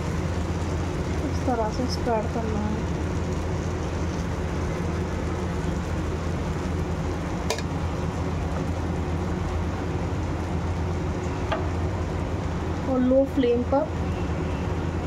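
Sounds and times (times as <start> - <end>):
batter sizzling in hot oil: 0.0 - 15.0
steady low hum: 0.0 - 15.0.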